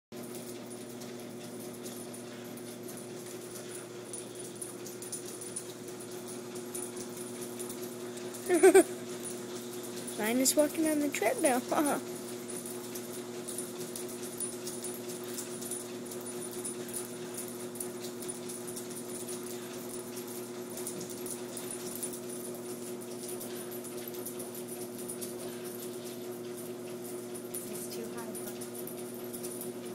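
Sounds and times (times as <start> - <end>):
dog paws ticking on belt: 0.2 - 29.9
treadmill motor hum: 0.2 - 29.9.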